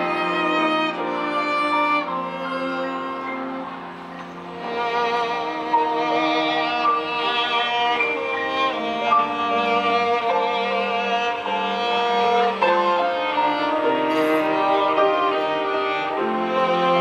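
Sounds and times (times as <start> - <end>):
violin cello and piano playing: 0.0 - 17.0.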